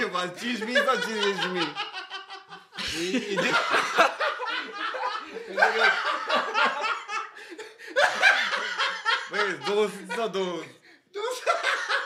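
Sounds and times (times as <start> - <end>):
men laughing hard: 0.3 - 10.6, 11.2 - 12.0.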